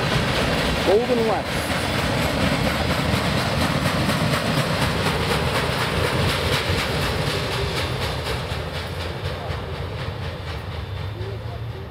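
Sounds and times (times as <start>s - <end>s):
train rumble: 0.0s - 11.9s
train wheels clicking over rail joints: 0.0s - 11.9s.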